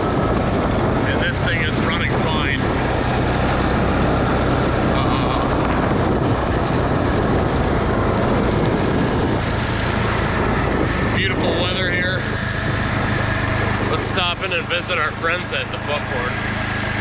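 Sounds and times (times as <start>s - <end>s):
atv engine running: 0.0s - 17.0s
wind: 0.0s - 17.0s.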